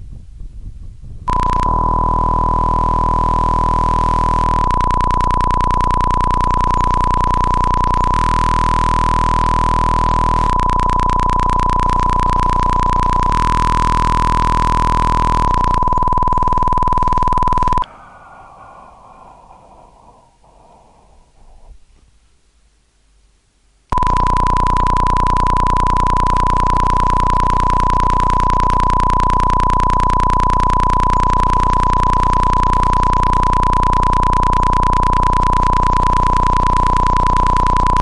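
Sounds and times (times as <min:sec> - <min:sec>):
high electronic beep tone: 0:01.3 - 0:17.9, 0:24.0 - 0:38.0
low buzz: 0:01.3 - 0:20.6, 0:23.9 - 0:38.0.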